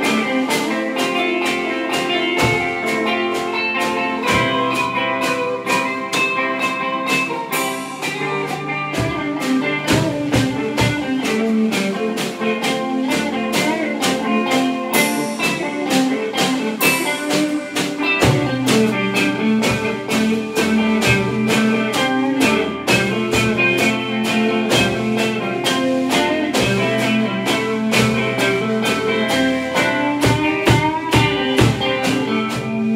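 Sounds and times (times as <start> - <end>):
drum kit beat: 0.0 - 32.9
electric guitars: 0.0 - 32.9.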